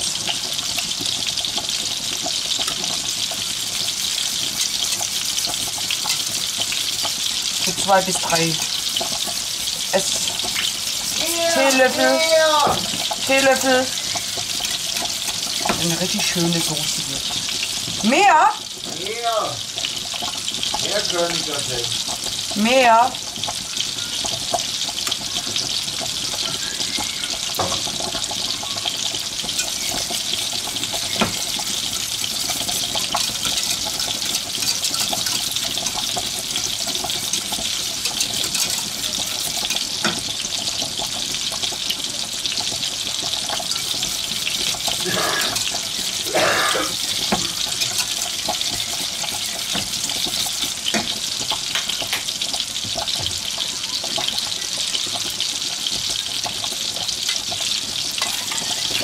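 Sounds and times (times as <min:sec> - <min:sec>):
meatballs sizzling in a pan: 0:00.0 - 0:59.0.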